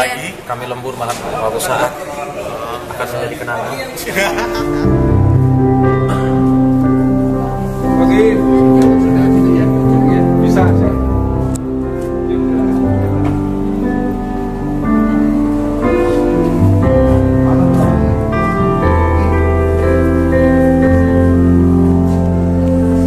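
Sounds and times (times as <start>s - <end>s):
slow chords over bass line: 4.3s - 23.0s.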